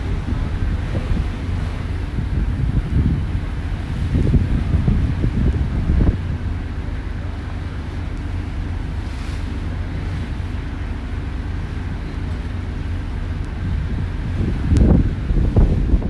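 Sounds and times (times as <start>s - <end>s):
boat engine drone: 0.0s - 16.0s
sea rushing past hull: 0.0s - 16.0s
wind on microphone: 0.0s - 16.0s.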